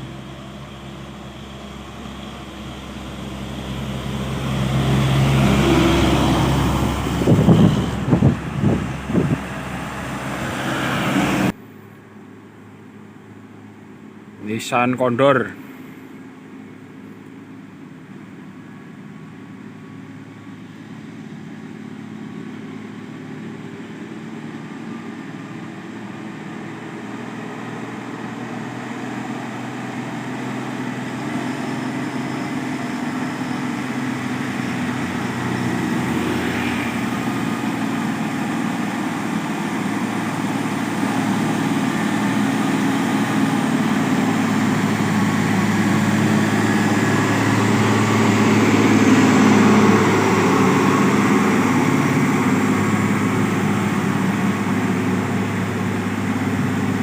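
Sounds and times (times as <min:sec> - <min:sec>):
diesel truck engine climbing uphill: 0:00.0 - 0:57.0.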